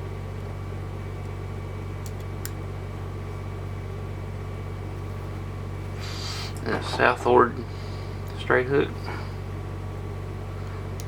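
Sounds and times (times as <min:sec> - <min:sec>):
machine-like room hum: 0:00.0 - 0:11.0.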